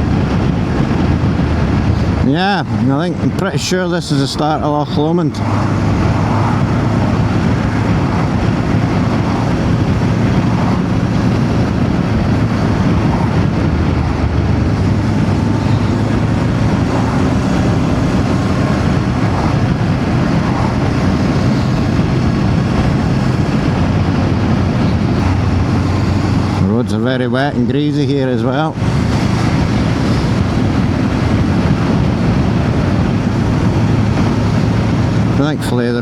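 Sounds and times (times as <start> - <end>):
tyre noise on wet road: 0.0 - 27.1, 27.7 - 36.0
motorcycle engine cruising: 0.0 - 36.0
wind rush: 0.0 - 36.0.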